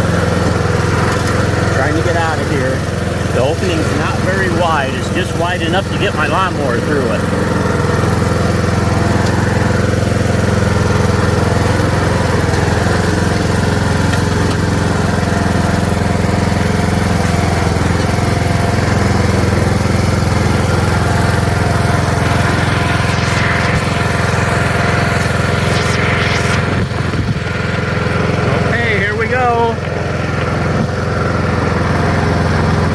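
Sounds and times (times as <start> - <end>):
lawn mower engine running: 0.0 - 32.9.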